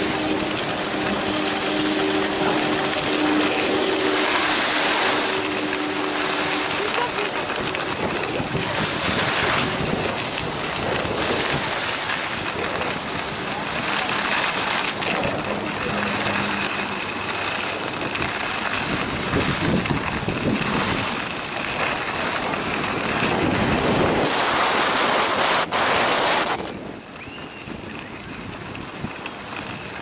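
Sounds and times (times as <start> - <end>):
skis scraping over snow: 0.0 - 30.0
wind on microphone: 0.0 - 30.0.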